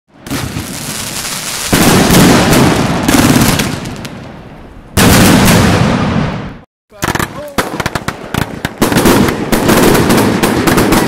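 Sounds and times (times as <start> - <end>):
fireworks crackling and banging: 0.1 - 11.0.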